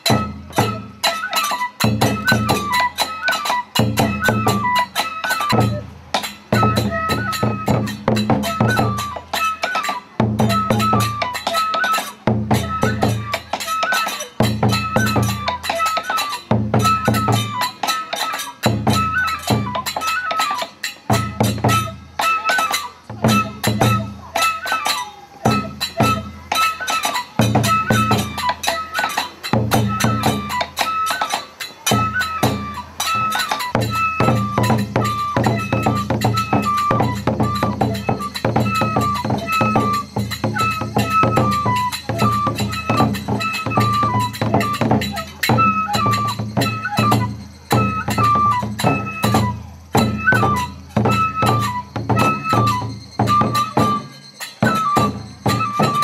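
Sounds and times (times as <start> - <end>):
barrel drum beaten with sticks: 0.0 - 56.0
high flute melody: 0.0 - 56.0.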